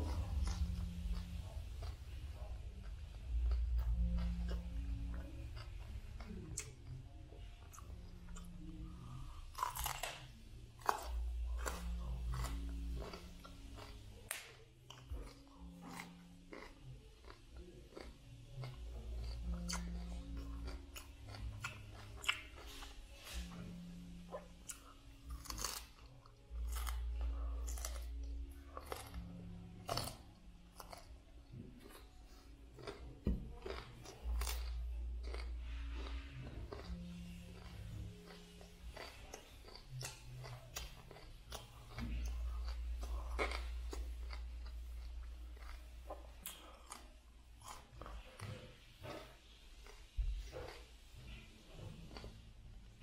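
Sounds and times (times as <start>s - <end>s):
broccoli being chewed: 0.0s - 53.0s
faint low hum: 0.0s - 53.0s.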